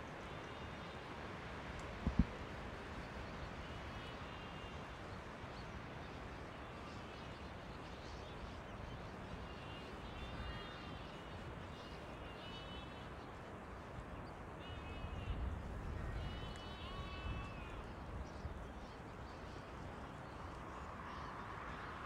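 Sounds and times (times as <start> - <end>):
birds calling faintly: 0.0 - 22.0
steady background hiss: 0.0 - 22.0.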